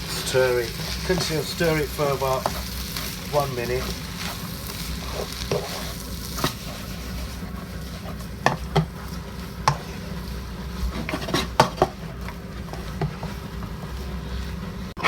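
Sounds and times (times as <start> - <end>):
light sizzle: 0.0 - 15.0
utensil scraping a pan: 0.0 - 15.0.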